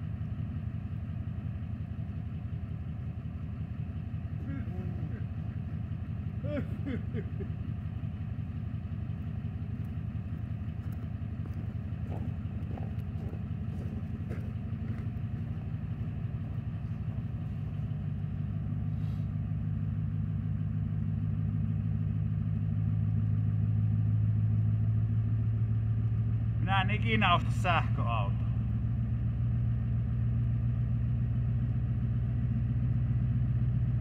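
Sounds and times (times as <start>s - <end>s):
diesel engine idling with clatter: 0.0s - 34.0s.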